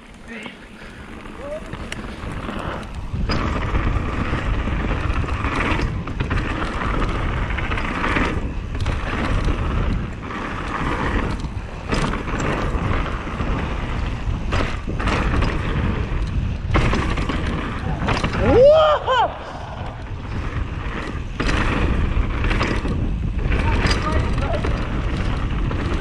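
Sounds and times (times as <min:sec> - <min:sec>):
bike tyre and frame noise: 0:00.0 - 0:26.0
wind rushing over microphone: 0:00.9 - 0:26.0.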